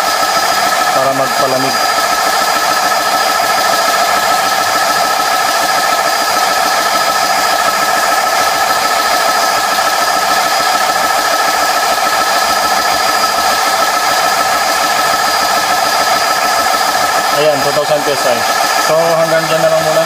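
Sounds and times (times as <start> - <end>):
air compressor drone with whine: 0.0 - 20.0.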